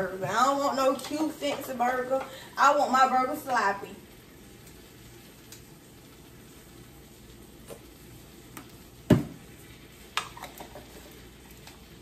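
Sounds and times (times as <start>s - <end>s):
food sizzling on stove: 0.0s - 12.0s.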